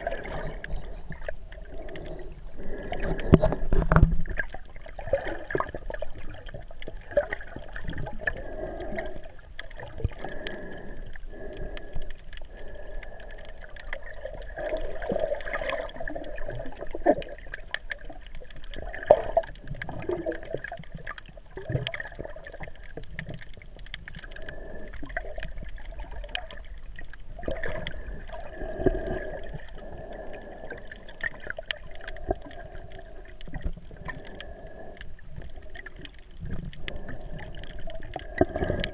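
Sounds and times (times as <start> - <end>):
muffled underwater wash: 0.0 - 38.9
sharp clicks and crackles: 0.0 - 38.9.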